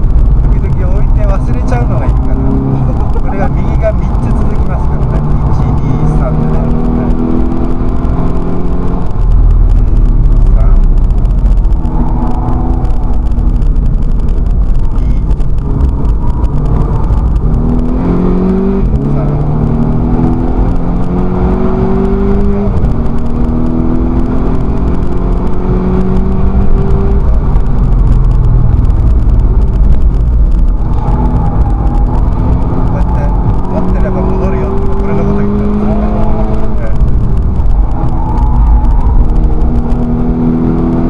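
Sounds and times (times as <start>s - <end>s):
road and wind rumble: 0.0s - 41.0s
race car engine accelerating: 0.2s - 14.4s, 15.0s - 41.0s.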